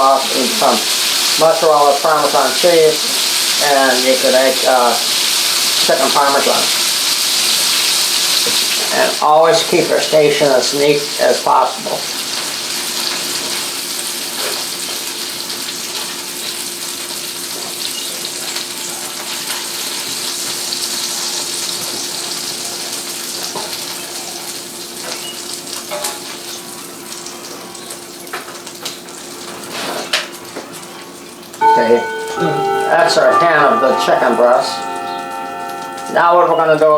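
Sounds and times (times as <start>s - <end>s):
chicken sizzling in a pan: 0.0s - 36.6s.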